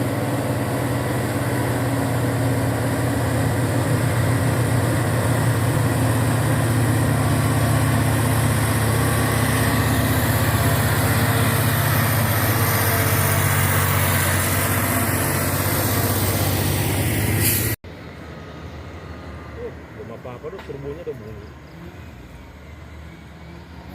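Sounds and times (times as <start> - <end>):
diesel truck engine running: 0.0 - 21.6.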